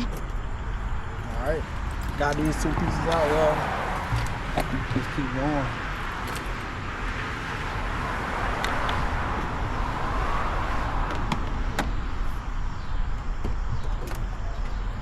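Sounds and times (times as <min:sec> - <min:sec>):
vehicle passing: 0:00.0 - 0:12.6.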